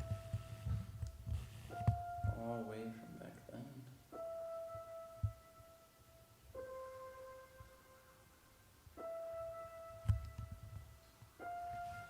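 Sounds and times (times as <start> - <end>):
slow piano note ringing: 0.0 - 12.0.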